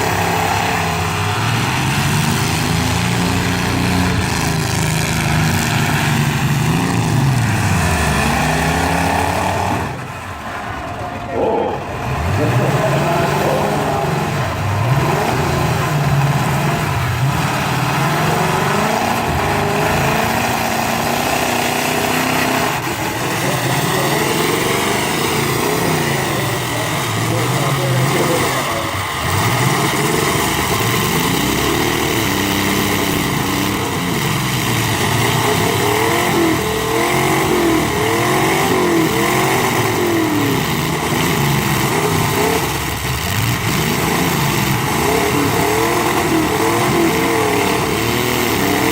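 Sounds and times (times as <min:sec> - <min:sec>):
car and truck engines revving: 0:00.0 - 0:48.9.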